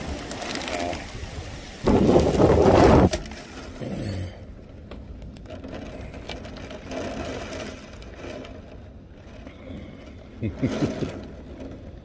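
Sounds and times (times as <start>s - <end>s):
heavy rain on wooden hut: 0.0s - 12.0s.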